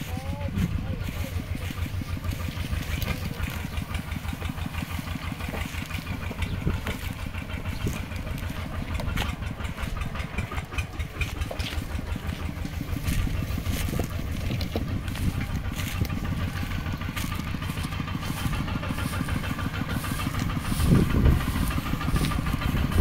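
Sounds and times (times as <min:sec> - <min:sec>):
mini tractor engine chugging: 0:00.0 - 0:23.0.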